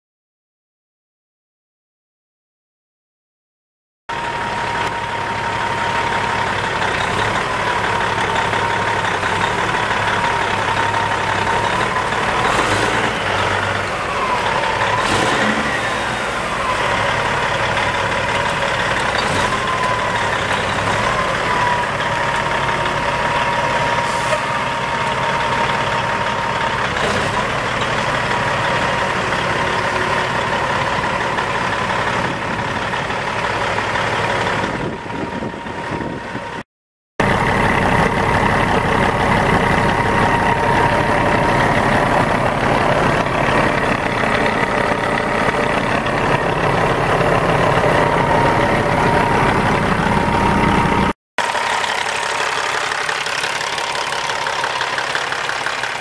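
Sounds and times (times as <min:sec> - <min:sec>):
diesel truck engine idling: 0:04.1 - 0:36.6, 0:37.2 - 0:56.0.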